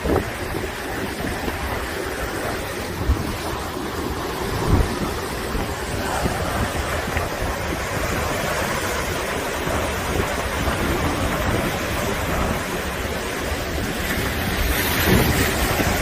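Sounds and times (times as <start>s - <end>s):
waves crashing over a seawall: 0.0s - 16.0s
wind buffeting microphone: 0.0s - 16.0s.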